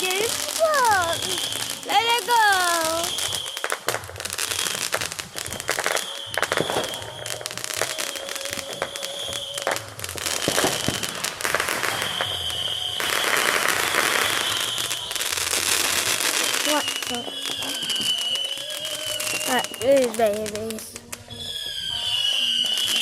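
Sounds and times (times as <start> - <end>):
fireworks popping and crackling: 0.0 - 23.0
high firework whistle: 0.0 - 23.0.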